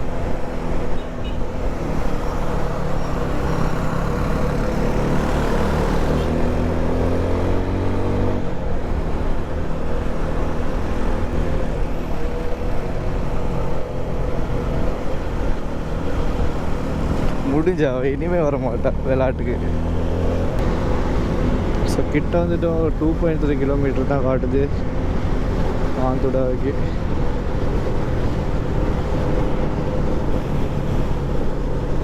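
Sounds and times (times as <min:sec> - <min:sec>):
road noise: 0:00.0 - 0:32.0.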